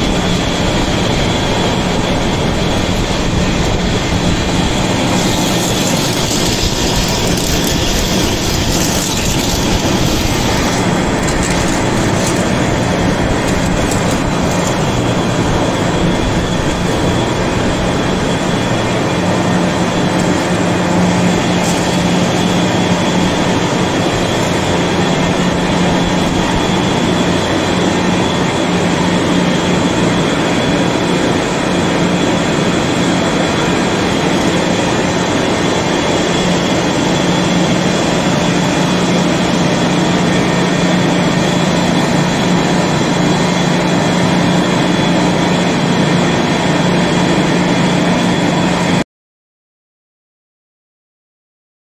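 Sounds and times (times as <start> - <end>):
lathe cutting metal: 0.0 - 49.0
steady machine hum: 0.0 - 49.0.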